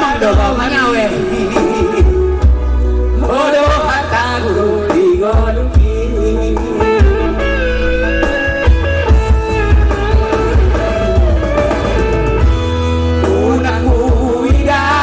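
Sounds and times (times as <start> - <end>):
electronic keyboard melody: 0.0 - 15.0
heavy pulsing bass beat: 0.0 - 15.0.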